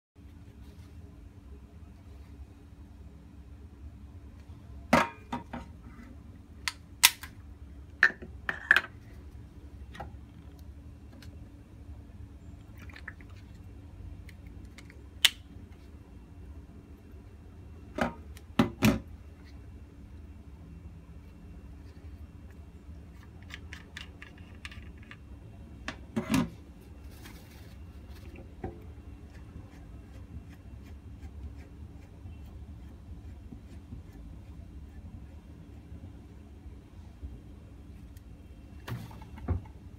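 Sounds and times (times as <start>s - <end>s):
low steady hum: 0.2s - 39.9s.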